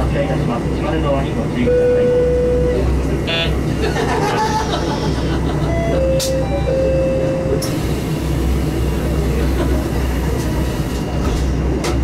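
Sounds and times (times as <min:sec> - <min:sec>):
diesel railcar engine drone: 0:00.0 - 0:12.0.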